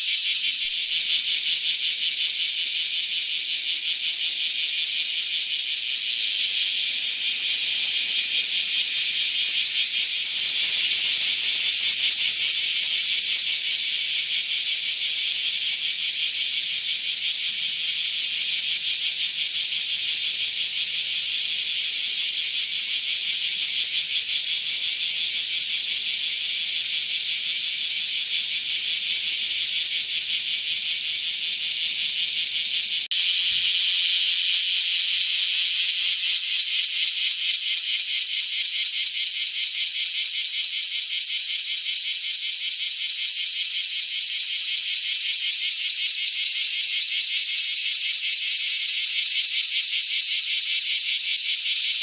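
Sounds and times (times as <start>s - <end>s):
cicadas buzzing: 0.0s - 52.0s.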